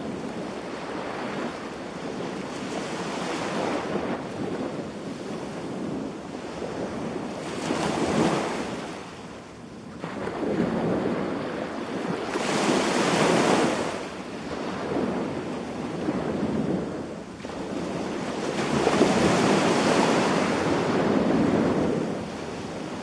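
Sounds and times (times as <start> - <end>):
sea waves breaking on beach: 0.0 - 23.0.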